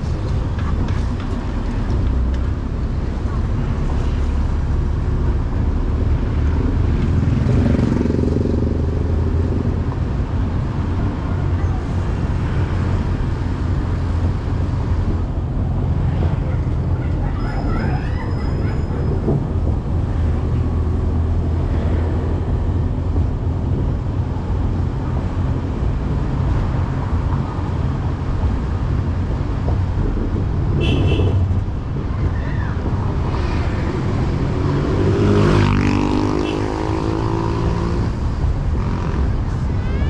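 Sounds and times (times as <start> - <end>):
vehicle accelerating: 0.0 - 27.2, 32.8 - 39.7
vehicle engine rumble: 0.0 - 40.0.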